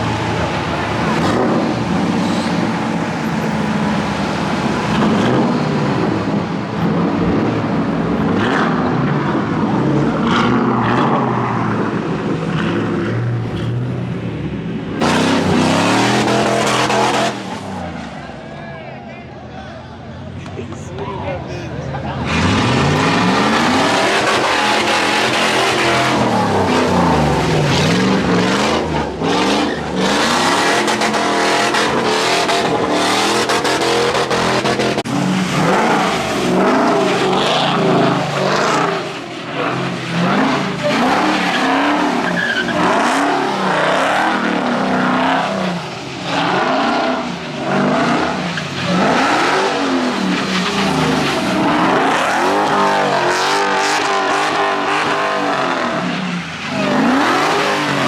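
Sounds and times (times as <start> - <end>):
car engine revving hard: 0.0 - 17.9, 21.5 - 58.0
tyres skidding on wet pavement: 0.0 - 18.7, 20.0 - 58.0.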